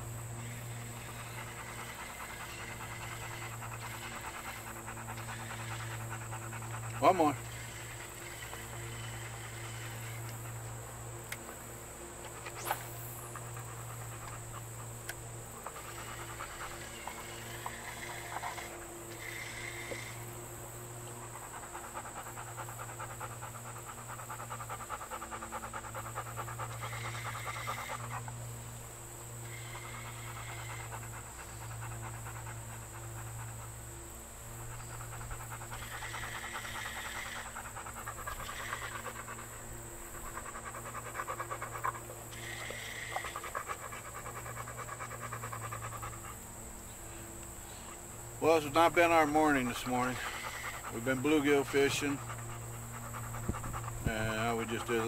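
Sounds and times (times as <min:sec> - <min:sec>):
small electric motor humming: 0:00.0 - 0:55.0.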